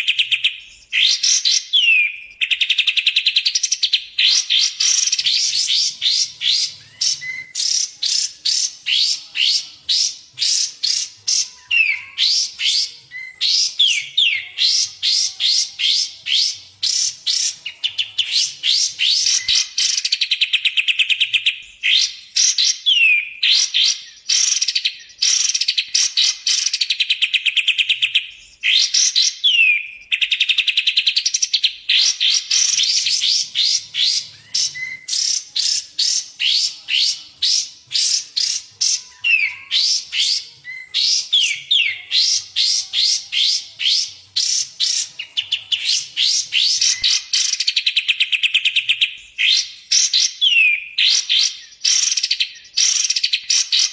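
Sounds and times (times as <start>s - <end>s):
songbird chirps and trills: 0.0s - 53.9s.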